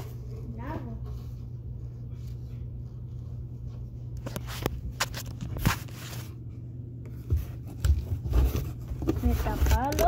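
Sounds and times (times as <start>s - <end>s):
paper rustling and crinkling: 0.0s - 6.5s, 7.1s - 10.0s
low steady hum: 0.0s - 10.0s.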